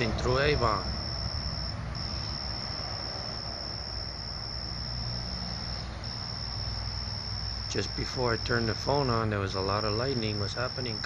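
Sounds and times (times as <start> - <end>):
low steady rumble: 0.0 - 11.0
night insects calling: 0.0 - 11.0.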